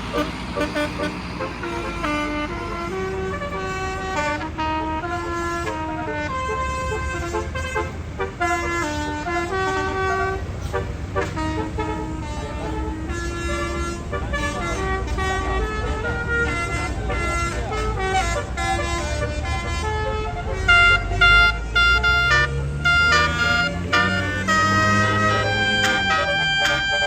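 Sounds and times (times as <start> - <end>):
musical air horn melody: 0.0 - 27.0.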